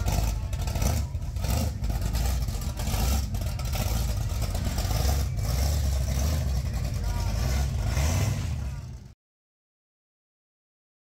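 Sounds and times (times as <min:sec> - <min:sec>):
car engine rumbling: 0:00.0 - 0:09.2.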